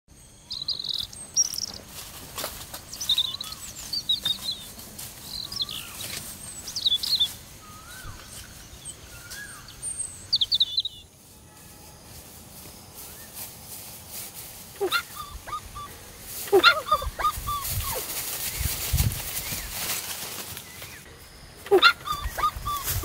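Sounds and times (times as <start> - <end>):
birds chirping and singing: 0.1 - 11.1, 14.8 - 23.0
rustles in grass: 0.5 - 23.0.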